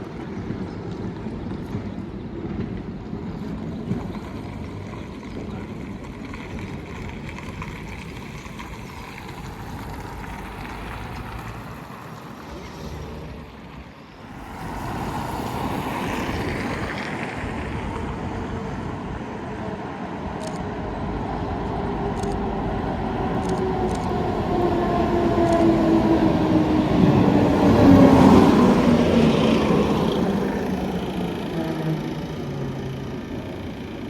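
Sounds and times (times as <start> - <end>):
tram rumbling on rails: 0.0 - 34.0.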